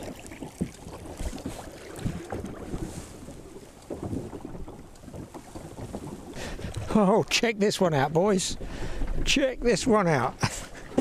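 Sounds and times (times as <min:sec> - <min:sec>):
water slapping against boat hull: 0:00.0 - 0:11.0.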